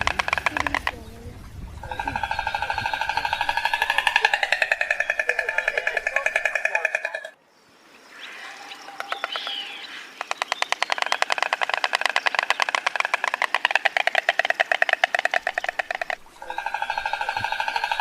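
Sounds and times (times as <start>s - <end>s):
stork clattering its bill: 0.0s - 7.4s, 9.0s - 18.0s.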